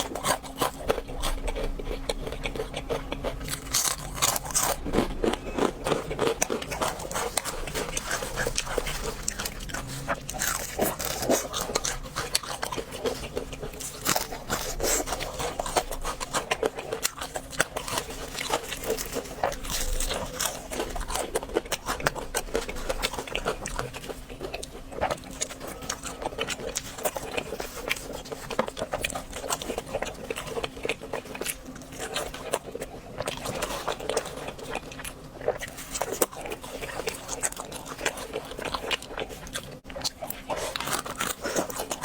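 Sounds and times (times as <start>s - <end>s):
crunching bites of fried food: 0.0s - 42.0s.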